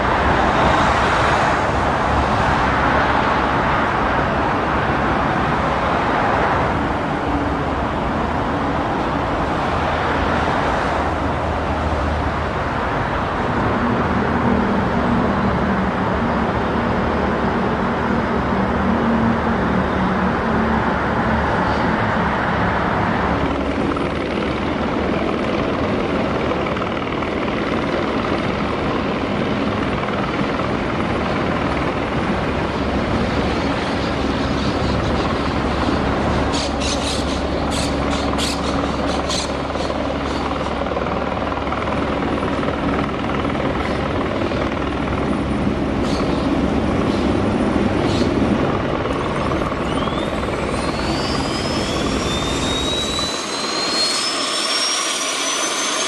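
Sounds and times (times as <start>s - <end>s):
turbine engine whine: 0.0s - 56.0s.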